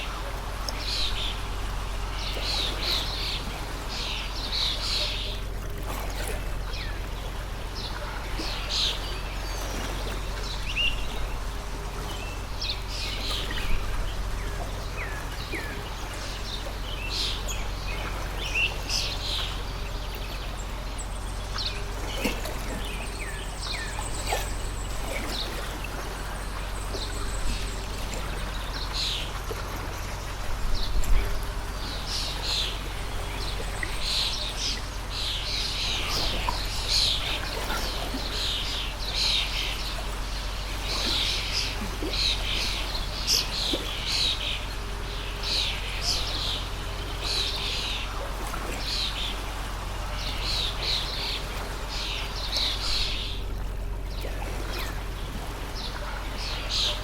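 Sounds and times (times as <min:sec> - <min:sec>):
small birds chirping: 0:00.0 - 0:57.0
stream flowing: 0:00.0 - 0:57.0.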